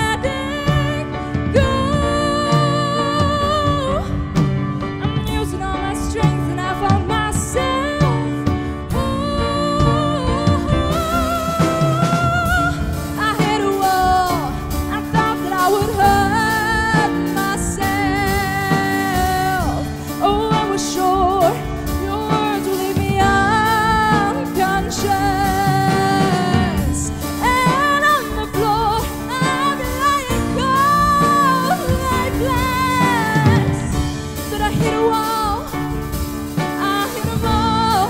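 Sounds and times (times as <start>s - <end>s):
band with keyboard: 0.0s - 38.0s
woman singing pop ballad: 0.0s - 38.0s.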